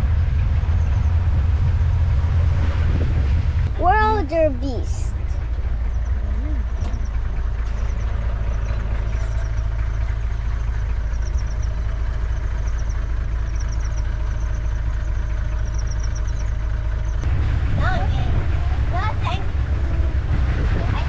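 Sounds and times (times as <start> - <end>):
vehicle engine low rumble: 0.0 - 21.0.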